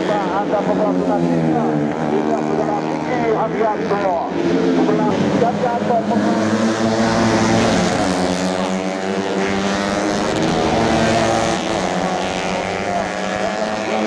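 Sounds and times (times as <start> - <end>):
racing motorcycles at high revs: 0.0 - 14.0.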